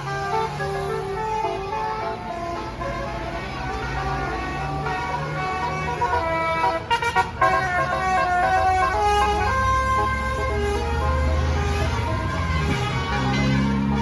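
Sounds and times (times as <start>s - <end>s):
bus engine running: 0.0s - 14.0s
multi-tone bus horn tune: 0.0s - 14.0s.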